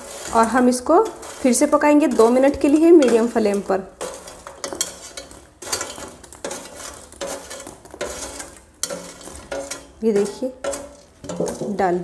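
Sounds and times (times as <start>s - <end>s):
spoon scraping in a pan: 0.0s - 12.0s.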